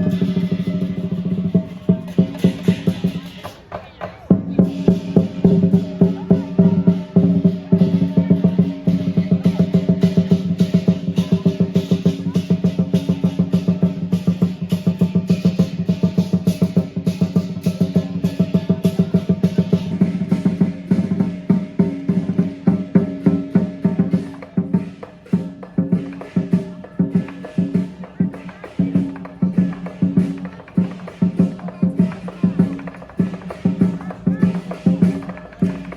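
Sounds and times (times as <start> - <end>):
cymbals crashing: 0.0 - 3.7, 4.3 - 35.9
large drum beaten fast: 0.0 - 35.9.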